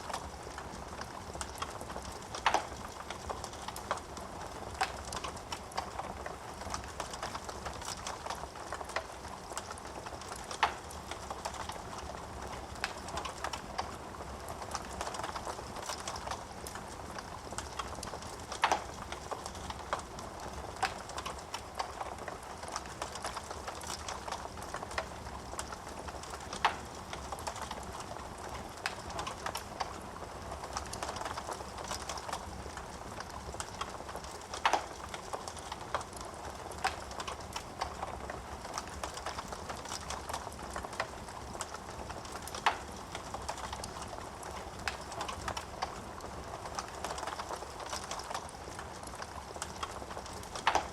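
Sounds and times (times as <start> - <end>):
wood fire crackling: 0.0 - 50.9
sharp snaps of burning wood: 0.1 - 13.9, 14.6 - 46.0, 46.6 - 50.9.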